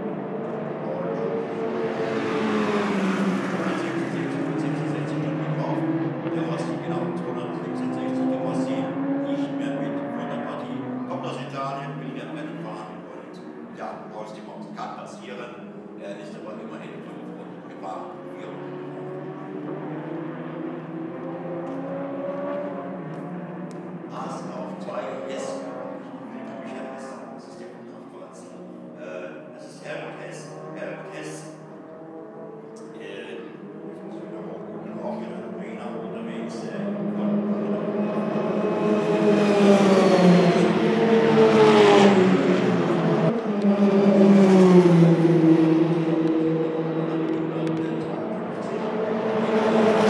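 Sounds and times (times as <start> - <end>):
race car engines passing: 0.0 - 50.0.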